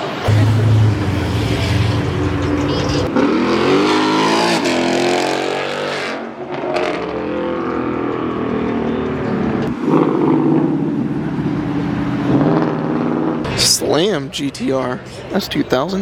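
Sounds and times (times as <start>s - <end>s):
car engines revving: 0.0s - 13.7s.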